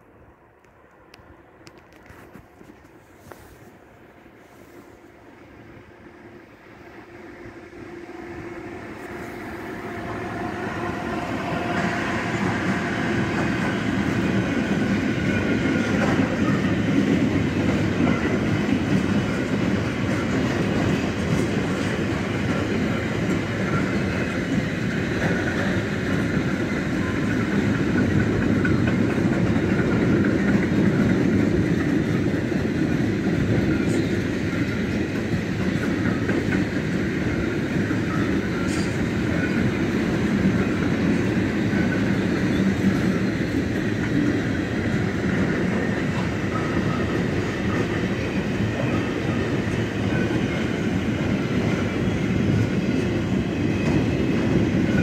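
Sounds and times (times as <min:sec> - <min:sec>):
electric locomotive passing: 0:00.0 - 0:55.0
freight train wheels clacking: 0:07.0 - 0:55.0.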